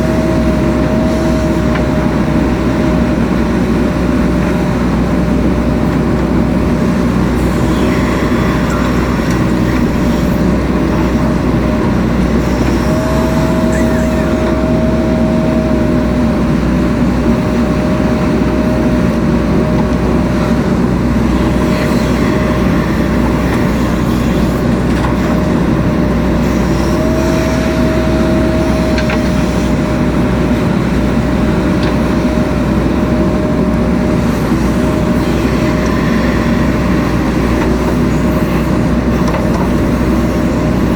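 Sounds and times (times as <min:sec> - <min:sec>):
diesel engine running: 0:00.0 - 0:40.9
hydraulic whine: 0:00.0 - 0:40.9.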